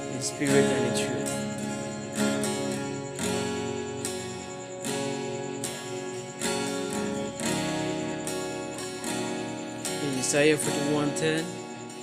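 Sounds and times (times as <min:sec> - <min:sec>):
acoustic guitar strummed: 0:00.0 - 0:12.0.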